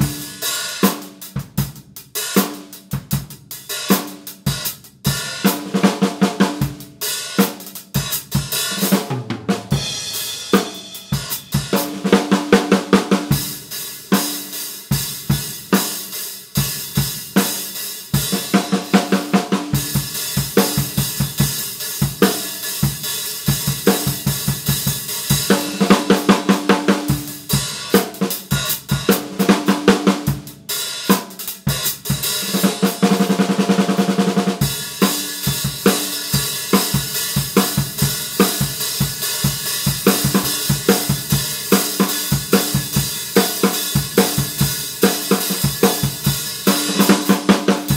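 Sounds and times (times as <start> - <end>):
drum kit groove: 0.0 - 47.9
drum roll: 3.9 - 16.0, 16.6 - 47.9.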